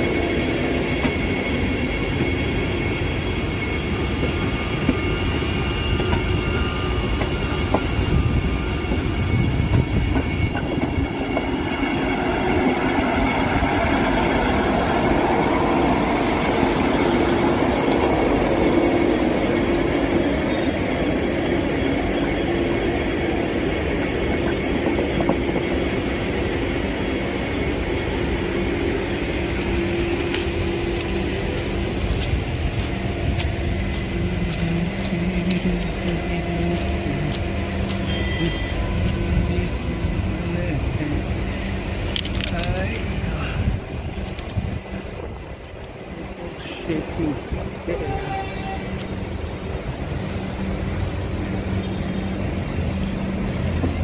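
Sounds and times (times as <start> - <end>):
continuous whine: 0.0 - 48.2
train wheels rumbling on track: 0.0 - 54.0.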